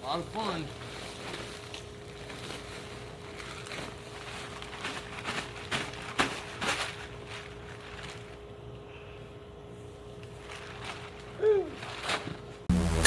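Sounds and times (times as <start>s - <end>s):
rustling and scraping of mulch: 0.0s - 8.6s, 9.8s - 12.6s
faint steady hum: 0.0s - 13.0s.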